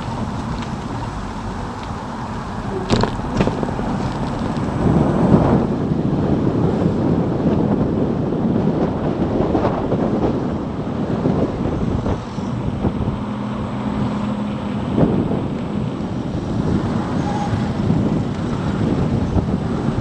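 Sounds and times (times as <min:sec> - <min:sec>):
road and tyre noise: 0:00.0 - 0:20.0
wind buffeting microphone: 0:00.0 - 0:20.0.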